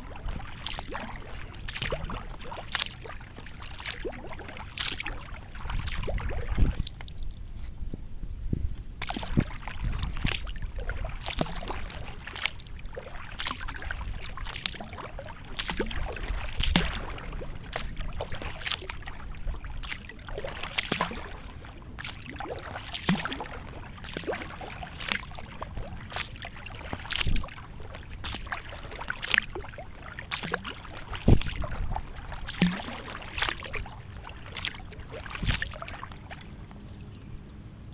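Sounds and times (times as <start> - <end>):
paddle splashing water: 0.0 - 7.8, 8.8 - 37.4
low rumble: 0.0 - 37.9.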